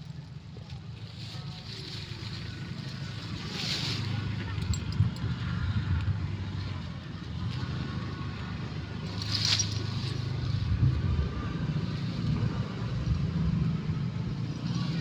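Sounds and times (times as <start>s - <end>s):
leaves rustling: 0.0s - 5.2s, 6.2s - 13.7s
low steady rumble: 0.0s - 15.0s.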